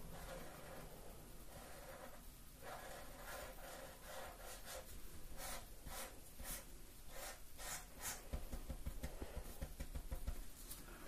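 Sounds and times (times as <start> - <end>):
marker scratching on paper: 0.1 - 10.2.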